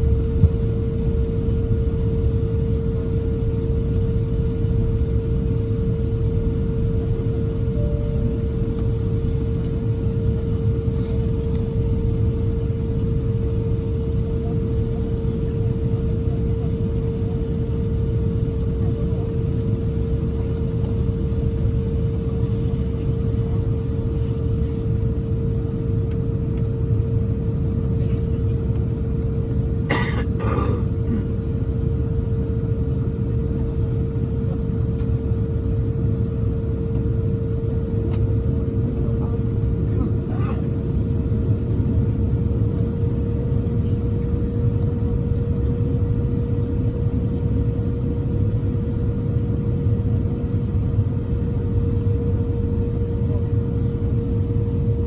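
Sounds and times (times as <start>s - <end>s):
aircraft engine and airflow rumble: 0.0s - 55.0s
constant hum: 0.0s - 55.0s.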